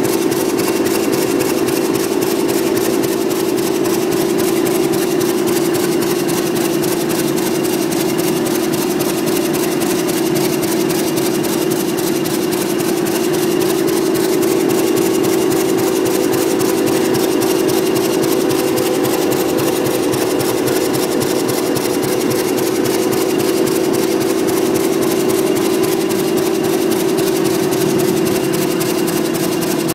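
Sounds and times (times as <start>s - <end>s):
diesel engine idling: 0.0s - 29.9s.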